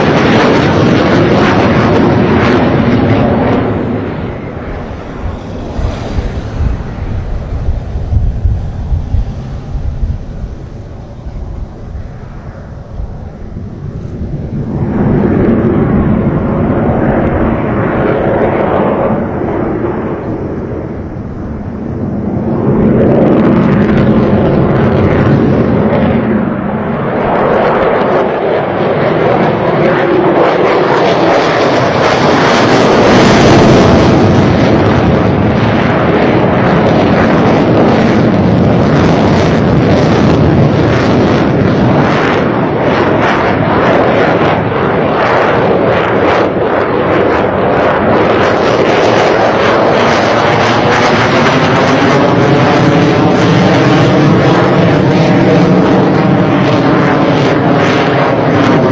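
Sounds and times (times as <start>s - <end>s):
fighter jet engines roaring: 0.0s - 58.9s.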